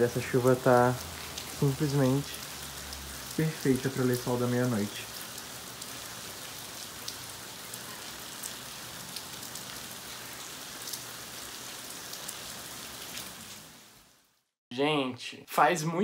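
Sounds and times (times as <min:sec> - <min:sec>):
sharp raindrop impacts: 0:00.0 - 0:14.4
steady rain on roofs and foliage: 0:00.0 - 0:14.6.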